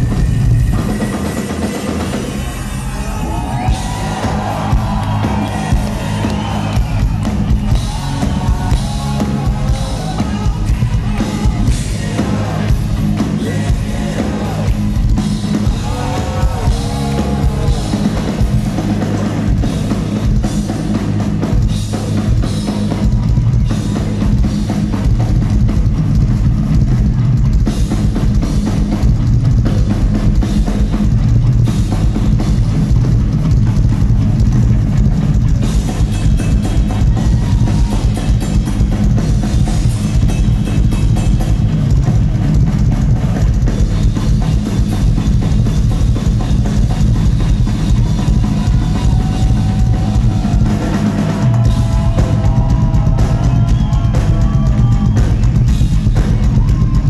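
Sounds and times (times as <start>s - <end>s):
rock drum solo: 0.0s - 57.0s.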